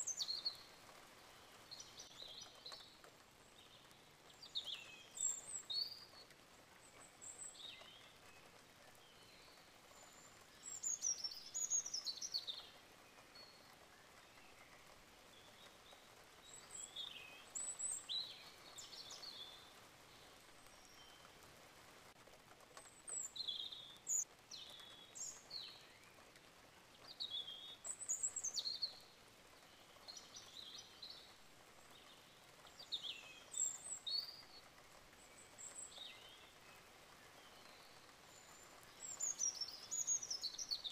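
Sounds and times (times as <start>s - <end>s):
faint steady hiss: 0.0s - 40.9s
small birds chirping: 0.0s - 40.9s.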